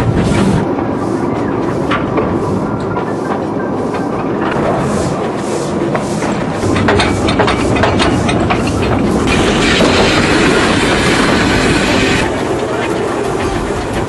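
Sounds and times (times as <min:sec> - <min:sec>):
rail clicks: 0:00.0 - 0:14.0
steady steam hiss: 0:00.0 - 0:14.0
train wheels rumbling: 0:00.0 - 0:14.0.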